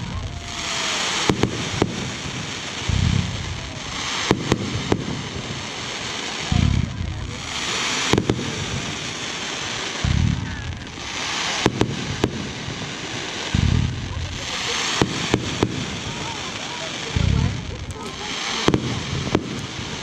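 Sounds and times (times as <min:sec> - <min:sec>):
fireworks crackle: 0:00.0 - 0:20.0
fireworks sharp bangs: 0:00.0 - 0:20.0
fireworks shells booming: 0:00.0 - 0:20.0.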